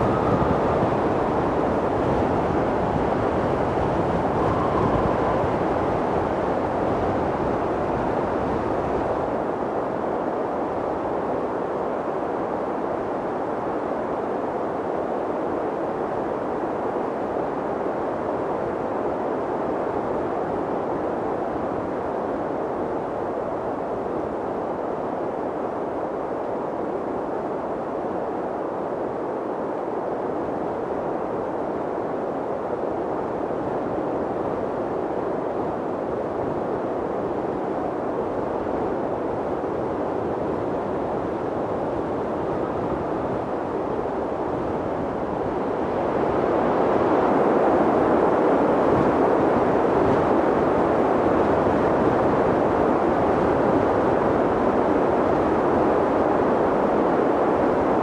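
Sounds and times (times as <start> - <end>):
steady wind rushing: 0.0 - 58.0.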